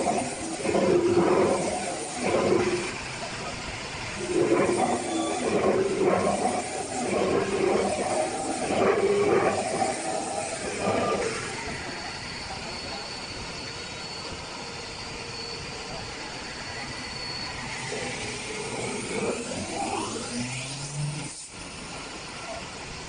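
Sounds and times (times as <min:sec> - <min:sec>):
metal spinning machine hiss: 0:00.0 - 0:23.0.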